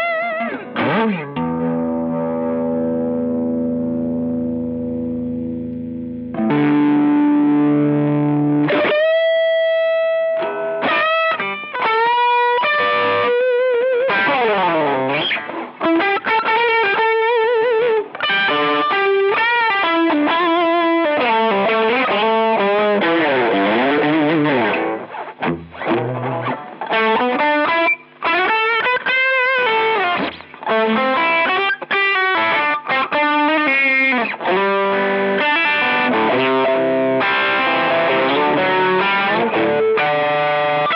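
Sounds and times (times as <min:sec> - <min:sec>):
overdriven electric guitar lead: 0:00.0 - 0:40.9.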